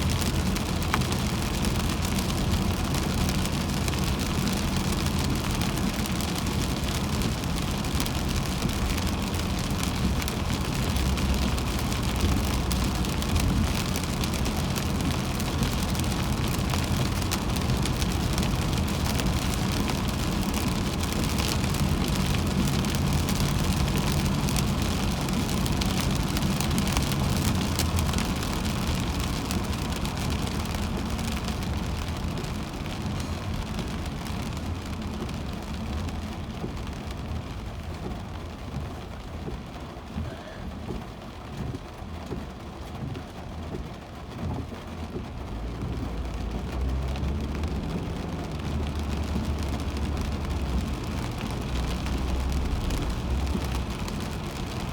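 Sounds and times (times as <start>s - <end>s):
hiss of rain and spray: 0.0s - 54.9s
tyres rumbling on wet road: 0.0s - 54.9s.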